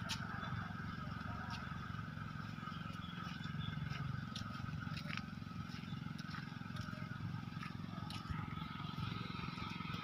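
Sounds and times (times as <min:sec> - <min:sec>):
footsteps on dry leaves: 0:00.0 - 0:10.0.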